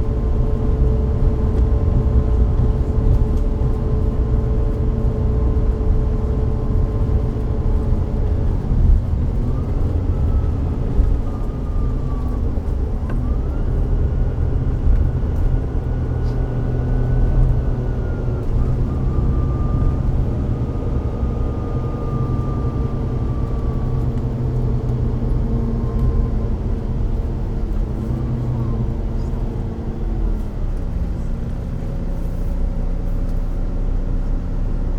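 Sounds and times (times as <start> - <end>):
bus diesel engine rumble: 0.0 - 34.9
high drivetrain whine: 0.0 - 34.9.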